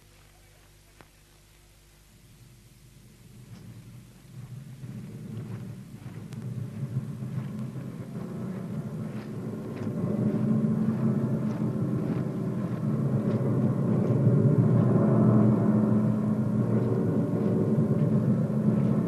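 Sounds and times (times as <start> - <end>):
low steady drone: 0.0 - 19.0.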